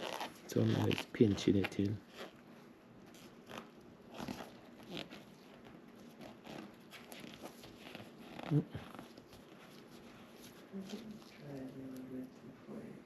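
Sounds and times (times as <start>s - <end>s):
upholstery rustling and crackling: 0.0s - 11.8s.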